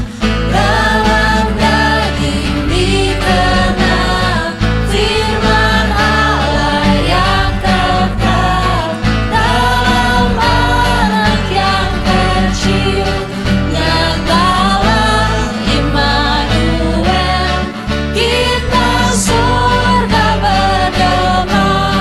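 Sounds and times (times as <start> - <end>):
bass and drums: 0.0 - 22.0
voices singing: 0.0 - 22.0.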